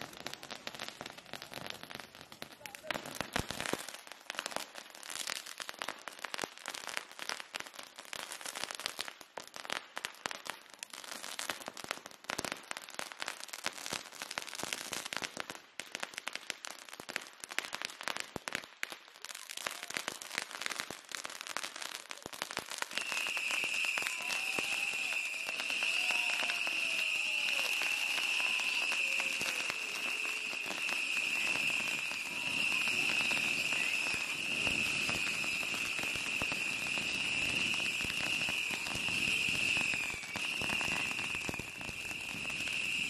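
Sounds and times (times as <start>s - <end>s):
firework fountains crackling: 0.0s - 43.0s.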